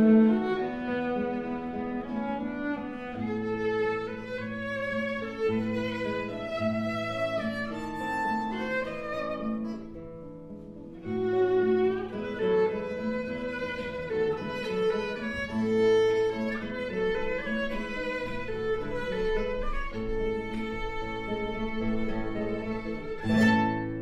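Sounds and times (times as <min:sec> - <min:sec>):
bowed violin notes: 0:00.0 - 0:10.0, 0:10.8 - 0:24.0
plucked guitar accompaniment: 0:00.0 - 0:24.0.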